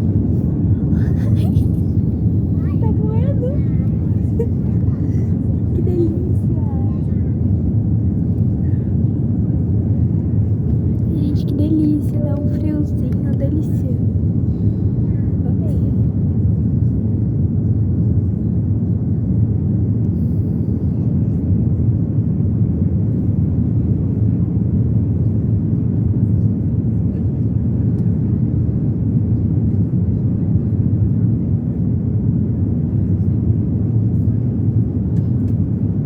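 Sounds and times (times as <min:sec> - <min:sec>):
airliner engine rumble in cabin: 0:00.0 - 0:36.0.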